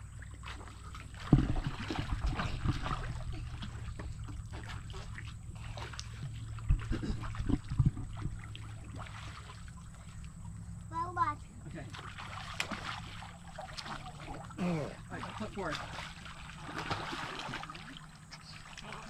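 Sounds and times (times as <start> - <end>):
pool water splashing: 0.0 - 19.0
steady low hum: 0.0 - 19.0.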